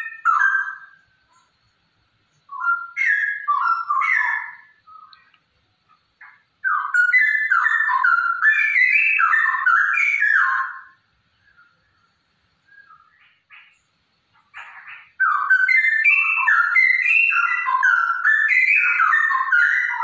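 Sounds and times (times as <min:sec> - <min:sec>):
bulbul singing: 0:00.0 - 0:20.0.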